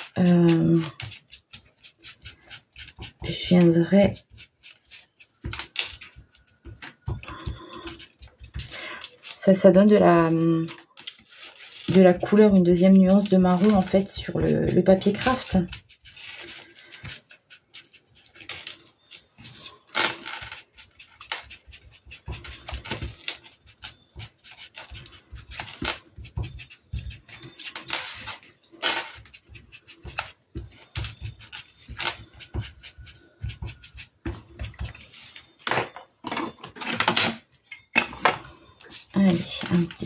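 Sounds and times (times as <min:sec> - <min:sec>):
foam tool swishing on paper: 0:00.0 - 0:35.6, 0:38.8 - 0:40.0.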